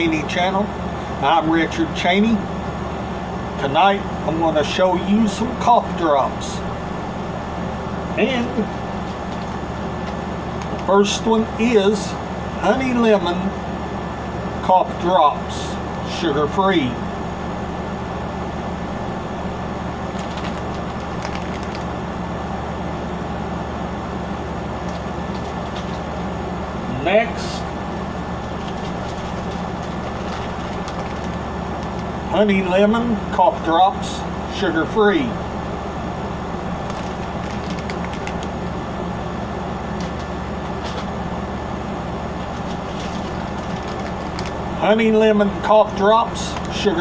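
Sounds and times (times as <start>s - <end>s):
low machine hum: 0.0s - 47.0s.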